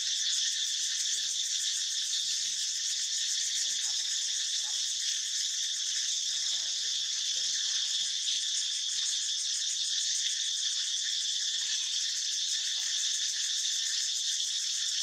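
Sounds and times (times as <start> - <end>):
insects trilling chorus: 0.0 - 15.0.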